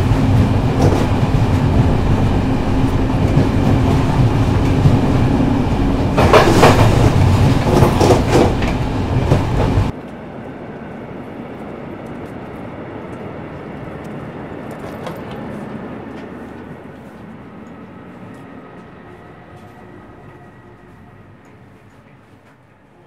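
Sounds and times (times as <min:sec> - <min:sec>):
train rumble with wheel clatter: 0:00.0 - 0:23.0.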